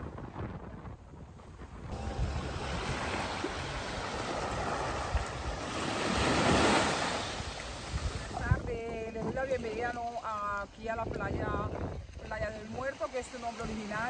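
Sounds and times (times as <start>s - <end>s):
rushing sea water: 0.0s - 14.0s
wind buffeting microphone: 0.0s - 14.0s.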